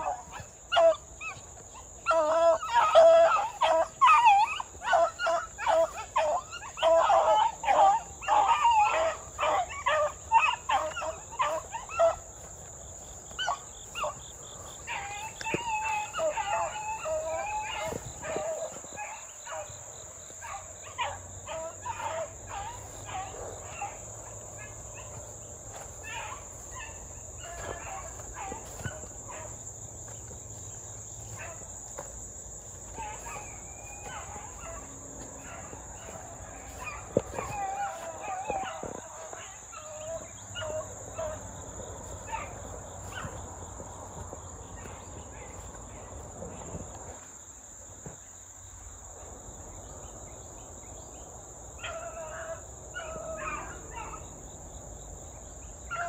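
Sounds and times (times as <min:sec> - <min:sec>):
beagles baying: 0:00.0 - 0:46.6, 0:51.7 - 0:54.4, 0:55.6 - 0:56.0.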